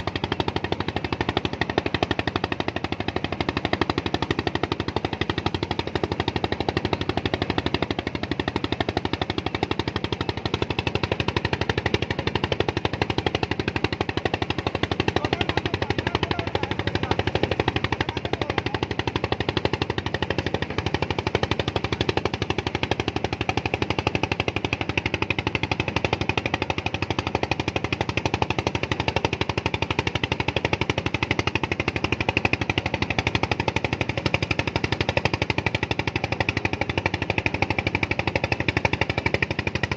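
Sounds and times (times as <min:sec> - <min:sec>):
engine chugging: 0:00.0 - 0:39.9.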